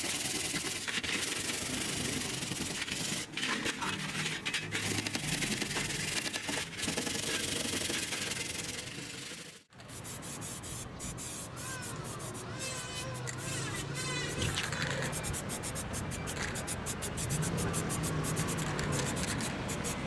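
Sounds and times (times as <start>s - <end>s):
hand sanding: 0.0s - 3.5s, 4.8s - 20.0s.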